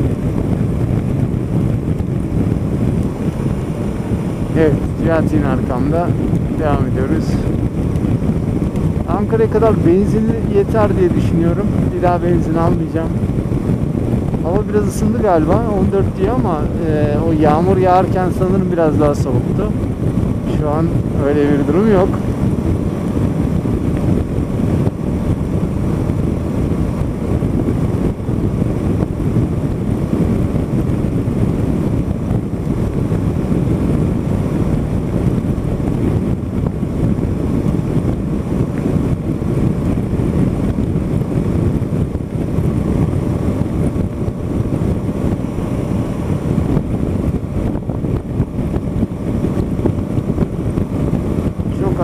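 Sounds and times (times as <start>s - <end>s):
faint motorcycle engine hum: 0.0s - 52.0s
wind rush over microphone: 0.0s - 52.0s.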